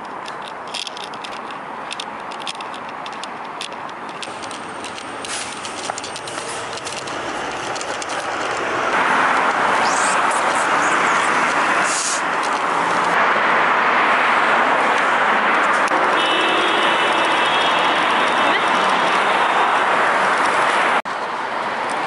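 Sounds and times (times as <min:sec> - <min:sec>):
rushing vehicle noise: 0:00.0 - 0:22.0.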